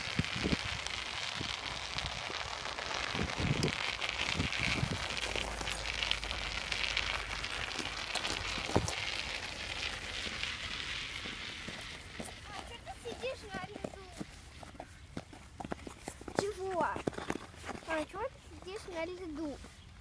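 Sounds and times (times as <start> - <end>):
bicycle tyres crunching on ice: 0.0 - 19.8.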